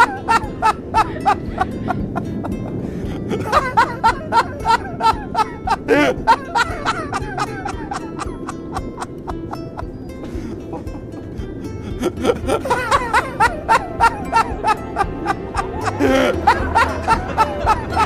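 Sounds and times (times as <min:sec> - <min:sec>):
background music: 0:00.0 - 0:18.0
laughter in quick bursts: 0:00.0 - 0:18.0.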